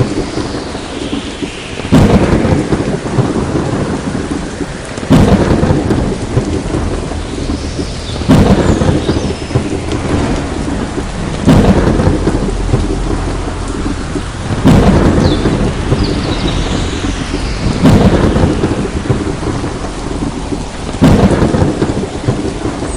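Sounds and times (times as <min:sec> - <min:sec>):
heavy rain falling: 0:00.0 - 0:22.9
thunder claps rumbling: 0:00.0 - 0:22.9.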